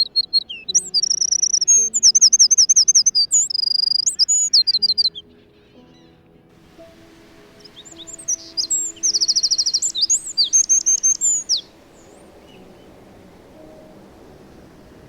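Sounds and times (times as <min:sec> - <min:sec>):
wren singing trills: 0:00.0 - 0:06.0, 0:06.6 - 0:15.0
faint background hiss: 0:00.0 - 0:15.0.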